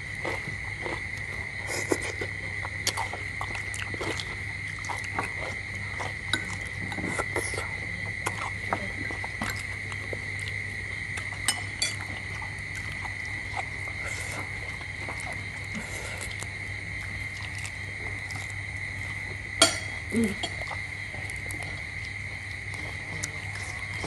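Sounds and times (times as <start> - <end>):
steady high-pitched hum: 0.0 - 24.0.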